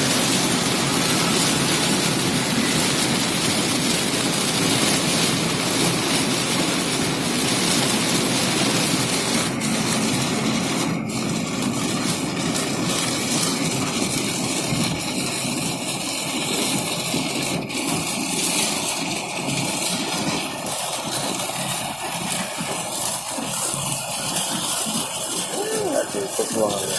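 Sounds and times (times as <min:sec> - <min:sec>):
car running noise: 0:00.0 - 0:26.9
heavy rain on a car: 0:00.0 - 0:26.9.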